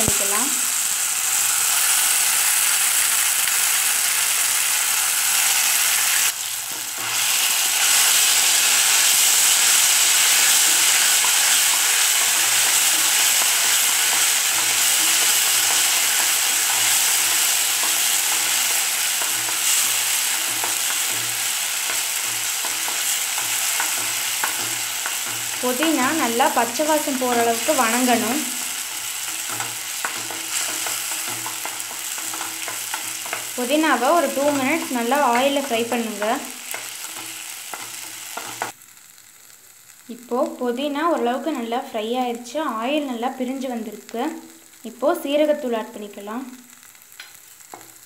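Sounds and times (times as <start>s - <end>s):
paste sizzling in hot oil: 0.0s - 48.0s.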